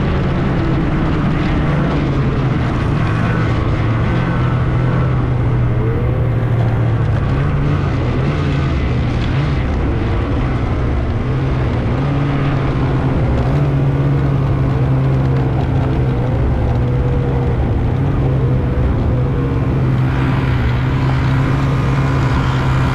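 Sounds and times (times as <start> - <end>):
snowmobile engine running: 0.0 - 22.9.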